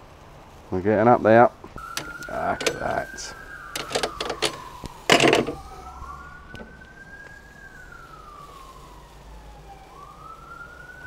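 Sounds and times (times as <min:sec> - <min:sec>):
siren wailing: 0:01.7 - 0:11.0.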